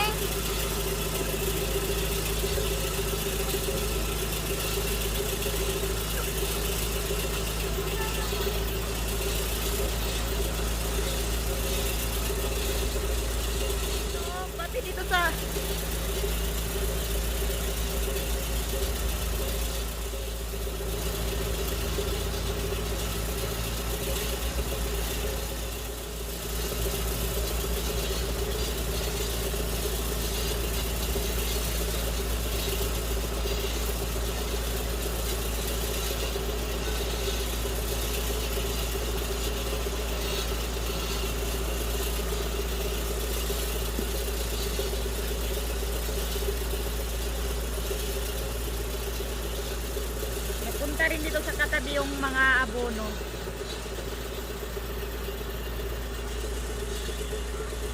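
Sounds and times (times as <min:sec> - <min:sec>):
tractor engine humming: 0:00.0 - 0:57.9.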